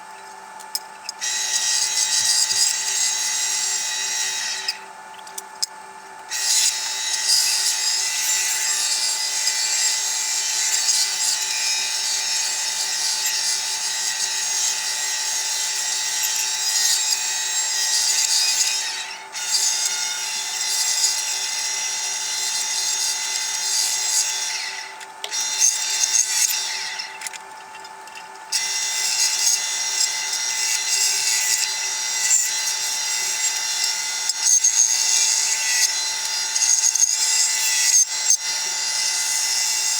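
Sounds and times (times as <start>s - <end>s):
bandsaw cutting wood: 1.2s - 4.9s, 6.3s - 27.4s, 28.5s - 39.9s.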